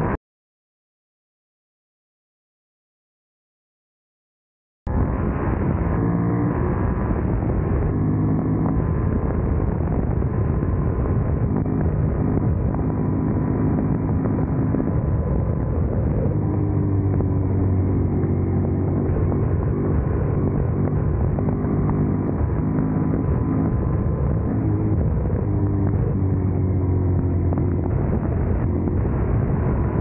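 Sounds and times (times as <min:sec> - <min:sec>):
motorcycle engine running: 0:05.0 - 0:30.0.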